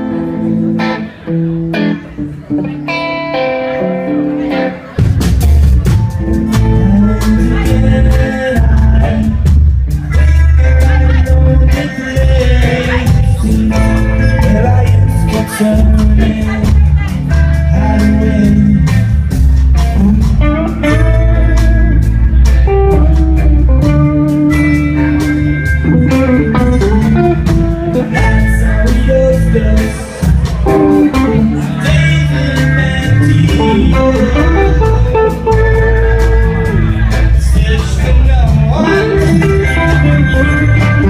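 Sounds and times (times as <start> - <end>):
guitar: 0.0 - 41.0
heavy bass: 0.0 - 41.0
live band playing: 0.0 - 41.0.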